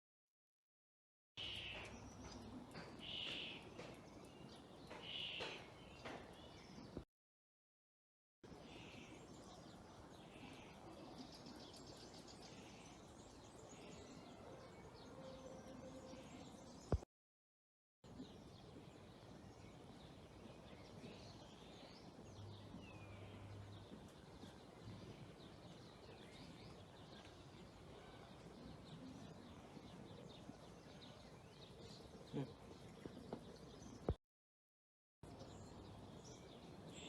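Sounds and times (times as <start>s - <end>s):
small birds chirping: 1.4s - 7.0s, 8.5s - 17.0s, 18.1s - 34.2s, 35.2s - 37.0s.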